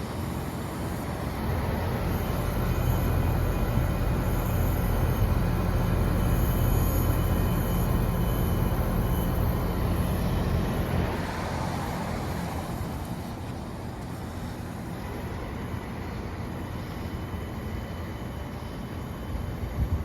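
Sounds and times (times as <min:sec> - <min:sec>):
heat pump rumbling and hissing: 0:00.0 - 0:20.0.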